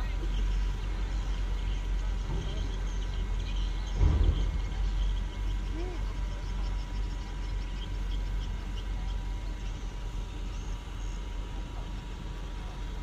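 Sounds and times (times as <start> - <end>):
truck diesel engines rumbling: 0.0 - 13.0.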